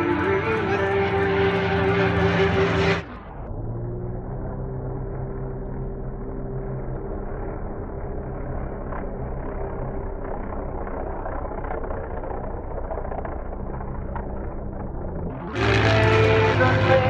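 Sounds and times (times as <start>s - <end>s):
piston aircraft engines droning: 0.0s - 17.0s.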